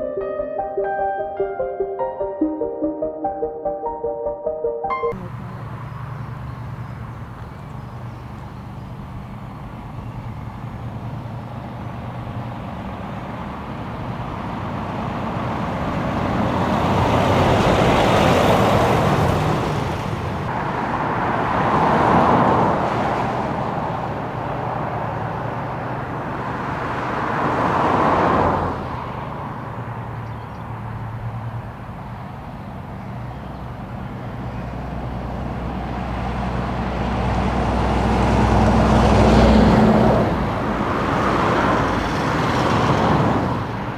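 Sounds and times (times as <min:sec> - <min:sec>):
trucks driving past: 0:00.0 - 0:43.9.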